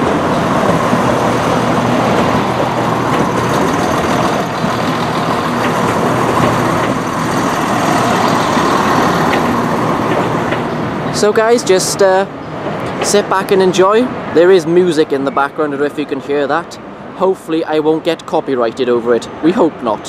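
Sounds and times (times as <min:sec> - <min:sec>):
diesel train engines humming: 0:00.0 - 0:20.0.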